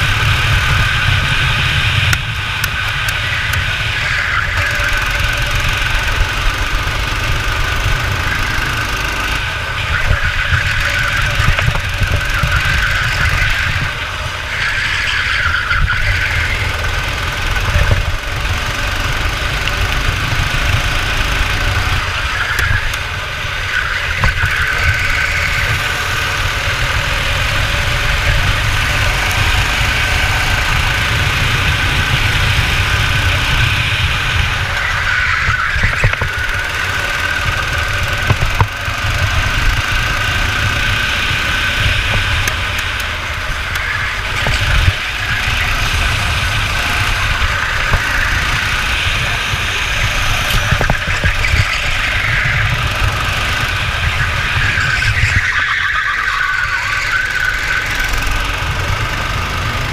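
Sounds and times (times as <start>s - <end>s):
go-kart engine racing: 0.0s - 59.9s.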